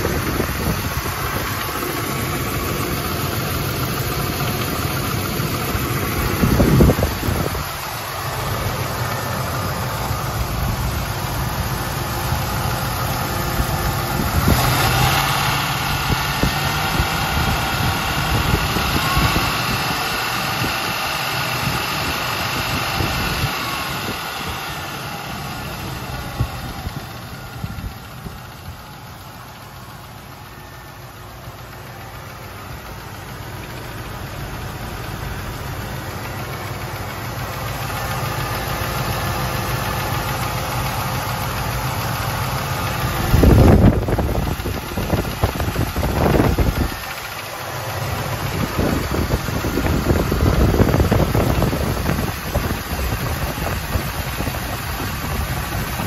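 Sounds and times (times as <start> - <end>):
engine idling with tapping: 0.0 - 56.0.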